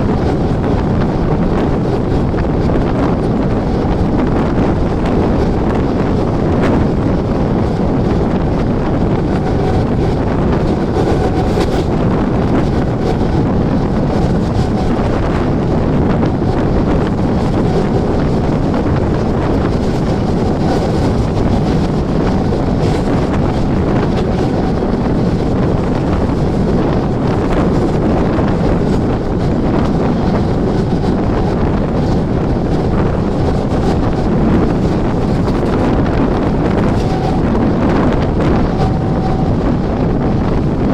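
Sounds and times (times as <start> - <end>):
train wheel and track noise: 0.0 - 40.9
wind buffeting microphone: 0.0 - 40.9.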